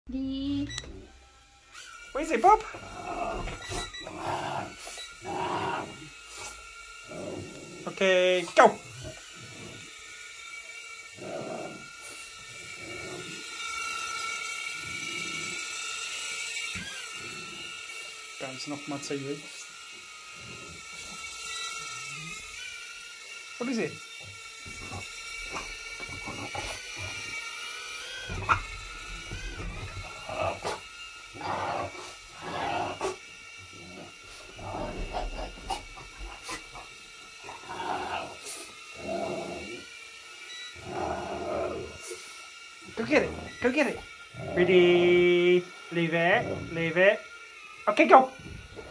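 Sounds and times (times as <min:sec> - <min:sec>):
drone propellers whirring: 0:00.1 - 0:48.9.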